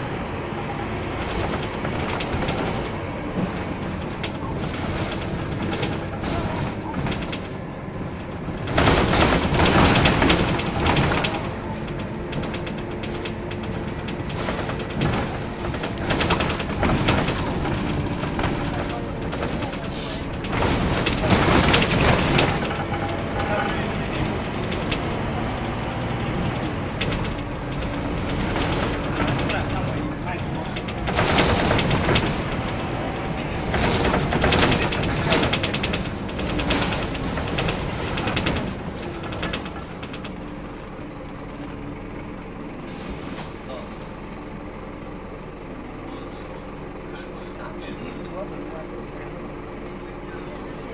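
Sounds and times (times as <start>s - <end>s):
bus engine running: 0.0s - 50.9s
rattling and clicking bus body: 0.0s - 50.9s.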